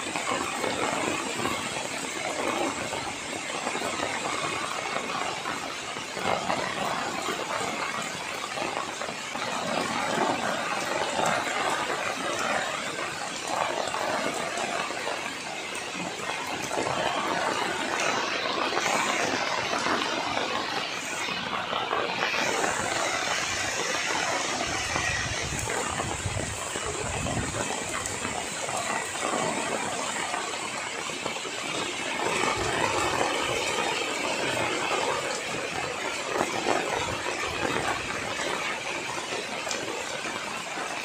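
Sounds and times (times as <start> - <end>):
heavy rain on foliage: 0.0 - 41.0.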